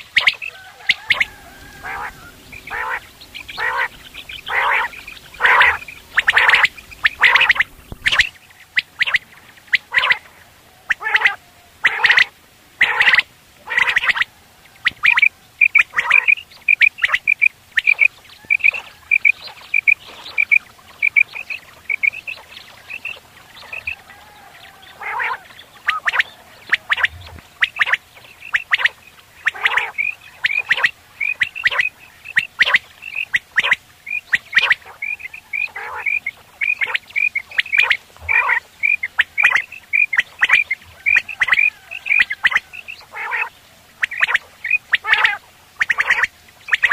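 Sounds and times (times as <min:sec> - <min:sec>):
quails calling: 0:00.0 - 0:46.9.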